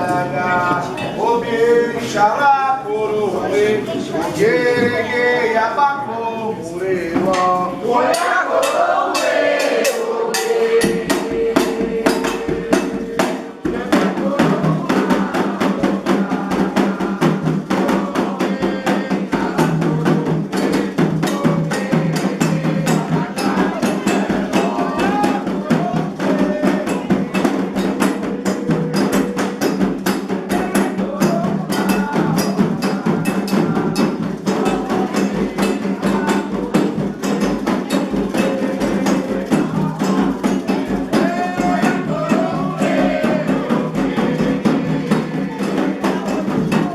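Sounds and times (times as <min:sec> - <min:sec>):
people singing: 0:00.0 - 0:46.9
drums: 0:06.8 - 0:46.9.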